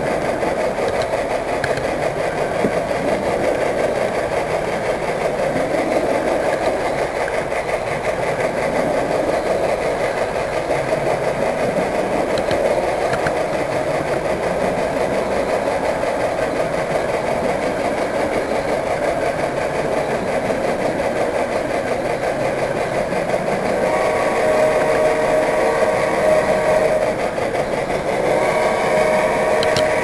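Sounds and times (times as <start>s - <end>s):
model train wheels rolling: 0.0s - 30.0s.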